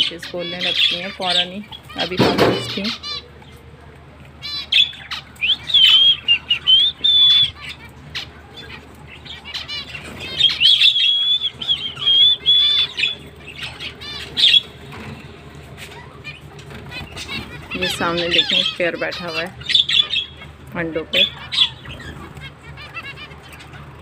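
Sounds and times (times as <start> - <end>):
finches chirping: 0.0 - 3.7, 4.4 - 24.0.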